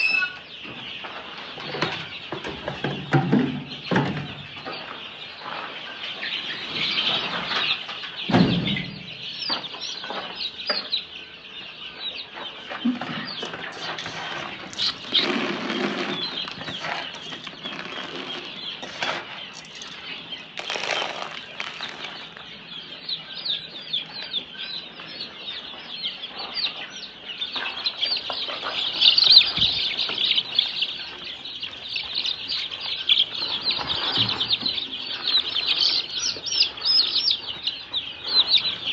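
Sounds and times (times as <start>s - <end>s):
chickens peeping: 0.0s - 38.9s.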